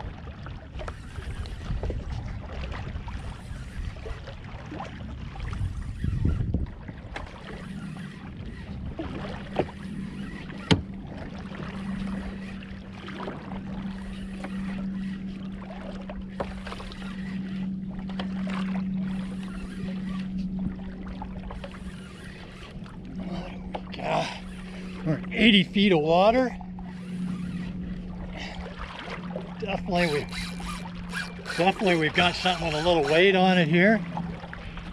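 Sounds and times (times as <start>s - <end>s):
steady low hum: 0.0s - 34.9s
water against kayak hull: 0.0s - 34.9s.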